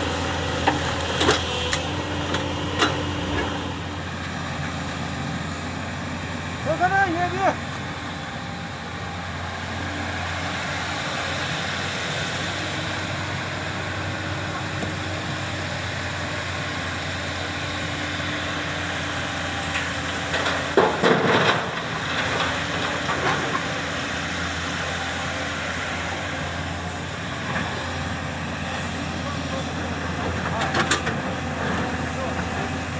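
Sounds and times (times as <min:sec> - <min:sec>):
diesel excavator engine: 0:00.0 - 0:32.9.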